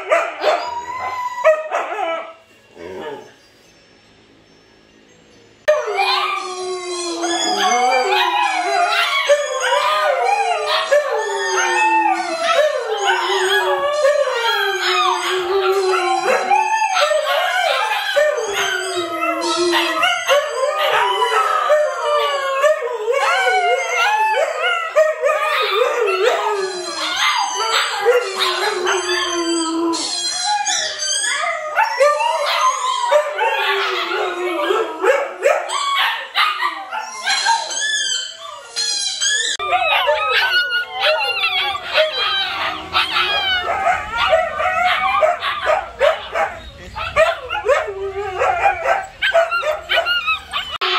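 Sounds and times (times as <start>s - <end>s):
dogs howling in chorus: 0.0s - 3.4s, 5.6s - 50.9s.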